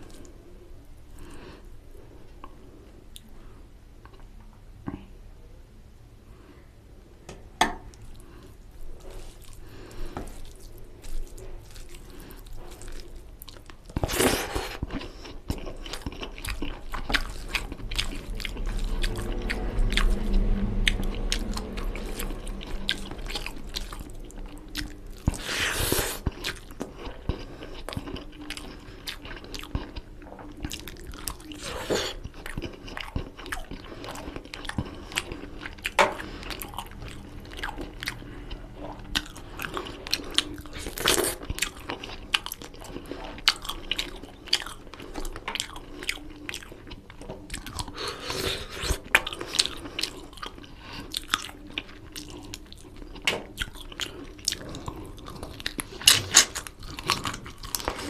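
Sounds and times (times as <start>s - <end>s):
close chewing and biting: 8.1s - 58.0s.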